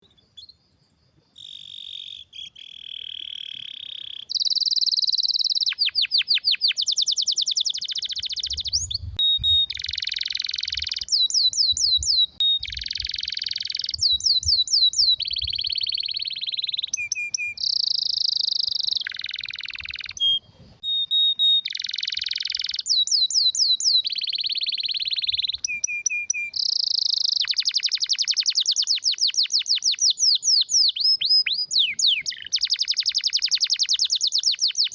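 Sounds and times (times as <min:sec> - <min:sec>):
canary singing: 0:01.4 - 0:34.9.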